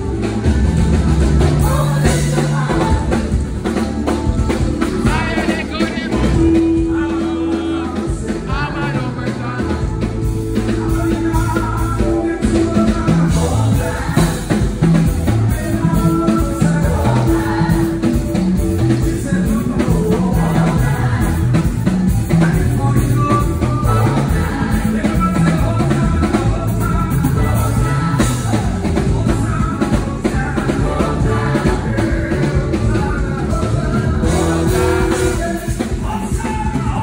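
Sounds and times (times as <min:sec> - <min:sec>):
drum kit beating: 0:00.0 - 0:37.0
gospel band playing: 0:00.0 - 0:37.0
singing: 0:01.4 - 0:37.0.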